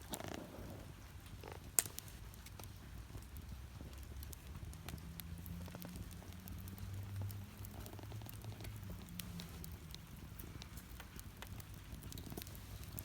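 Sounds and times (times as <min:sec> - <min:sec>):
burning wood crackling and popping: 0:00.0 - 0:13.0.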